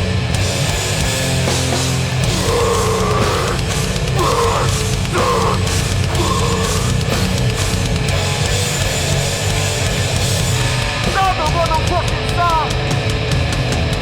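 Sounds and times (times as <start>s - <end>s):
metal band playing: 0.0s - 14.0s.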